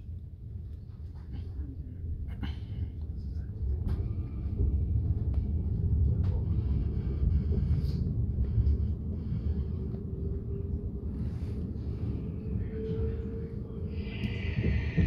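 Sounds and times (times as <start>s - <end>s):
train rumble from inside carriage: 0.0s - 15.0s.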